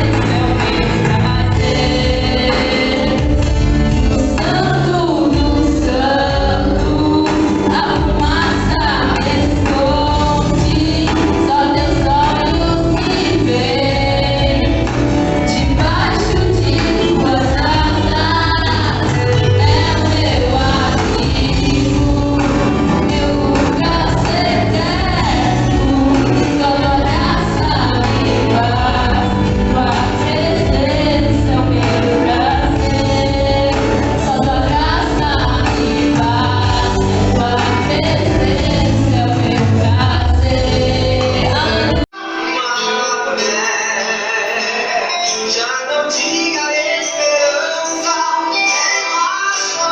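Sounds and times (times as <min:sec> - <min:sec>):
gospel singing over a band: 0:00.0 - 0:49.9.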